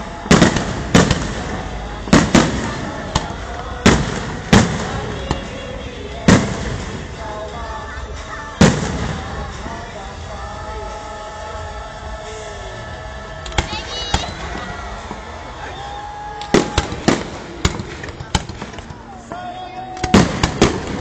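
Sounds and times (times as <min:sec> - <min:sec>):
fireworks bangs echoing: 0:00.0 - 0:19.4, 0:20.0 - 0:21.0.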